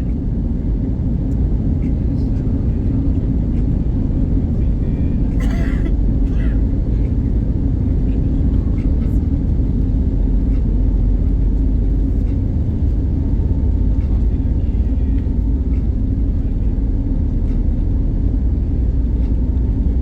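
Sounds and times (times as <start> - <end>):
jet engine low rumble in cabin: 0.0 - 20.0.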